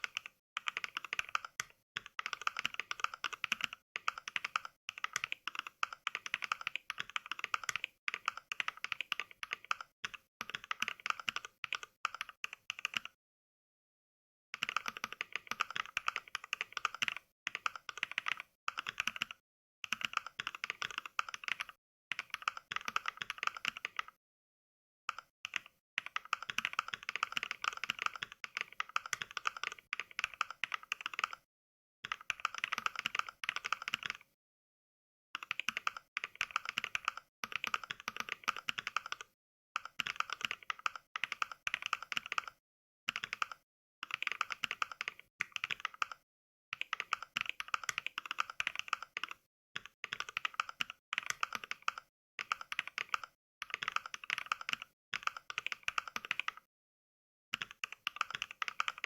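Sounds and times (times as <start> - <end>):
mechanical keyboard typing clacks: 0.0 - 13.2, 14.6 - 24.2, 25.1 - 31.4, 32.1 - 34.3, 35.4 - 46.2, 46.8 - 56.7, 57.6 - 59.0.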